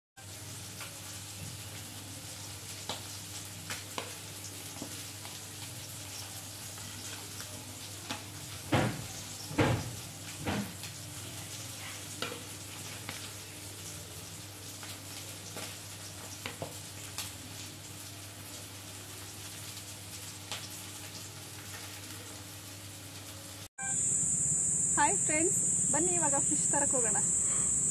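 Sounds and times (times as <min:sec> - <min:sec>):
fish sizzling in oil: 0:00.2 - 0:27.9.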